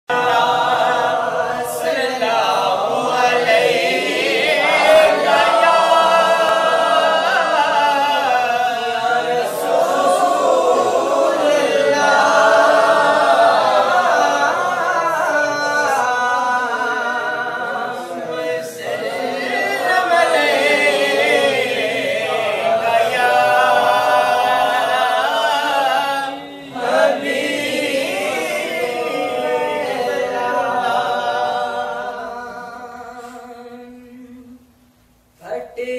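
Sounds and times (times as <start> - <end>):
men singing together: 0.1 - 34.7.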